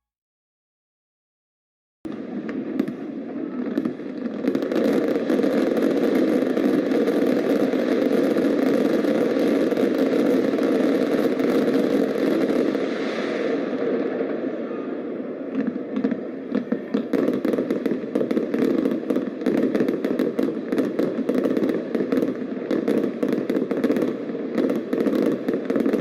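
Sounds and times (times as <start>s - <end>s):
fireworks bangs: 2.1s - 26.0s
fireworks crackling: 2.1s - 26.0s.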